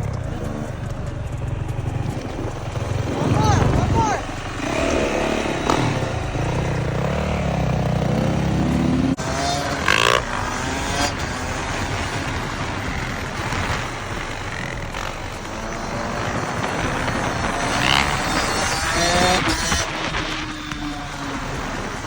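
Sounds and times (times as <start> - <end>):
dirt bike engine running: 0.0 - 22.0
wind noise: 0.0 - 22.0.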